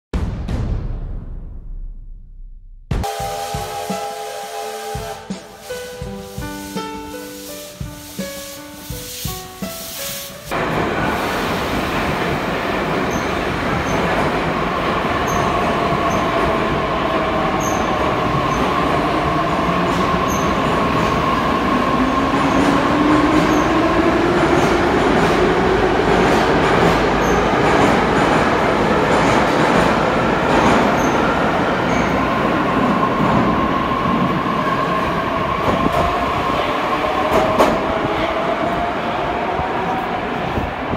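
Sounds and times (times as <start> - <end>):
train wheels rumbling on rails: 3.0 - 40.9.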